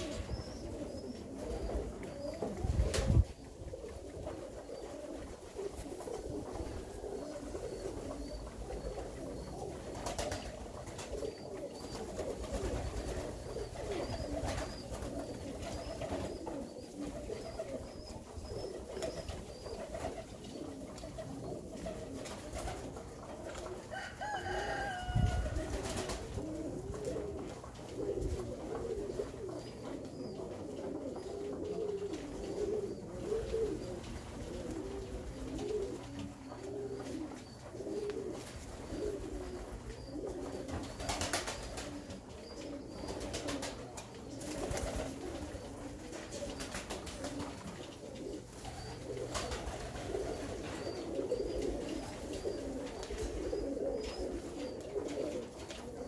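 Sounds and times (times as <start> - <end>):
pigeons cooing: 0.0 - 56.0.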